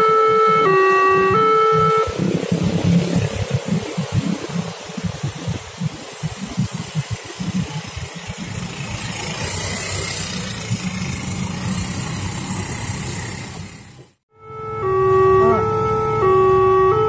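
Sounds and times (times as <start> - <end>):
vehicles driving past: 0.0 - 17.0.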